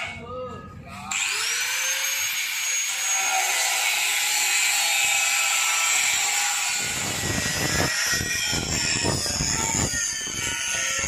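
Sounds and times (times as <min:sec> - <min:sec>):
angle grinder cutting steel: 0:01.1 - 0:11.0.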